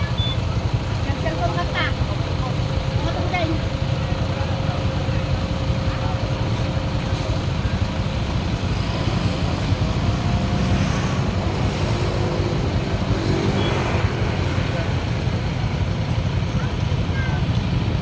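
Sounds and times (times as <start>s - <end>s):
traffic jam engines rumbling: 0.0s - 18.0s.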